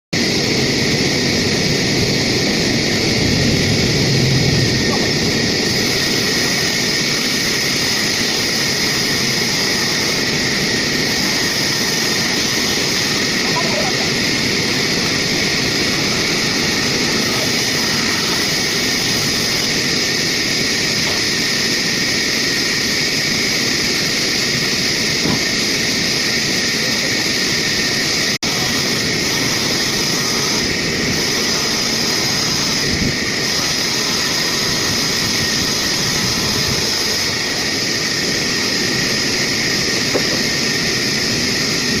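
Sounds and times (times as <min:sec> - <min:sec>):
sawmill saw cutting wood: 0:00.2 - 0:42.0.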